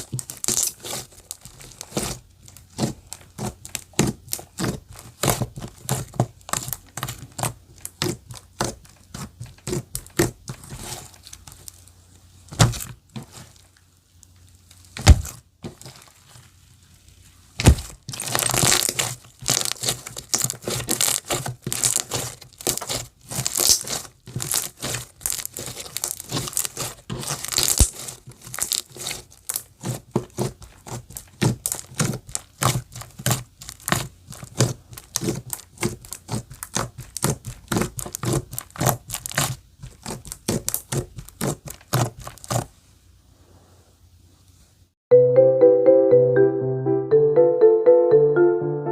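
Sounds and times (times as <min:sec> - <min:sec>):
slime squishing with sticky pops: 0:00.0 - 0:16.8, 0:17.5 - 0:42.7.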